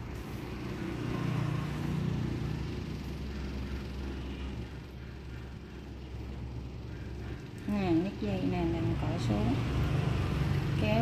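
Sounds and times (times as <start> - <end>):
passing vehicle rumble: 0.0 - 11.0.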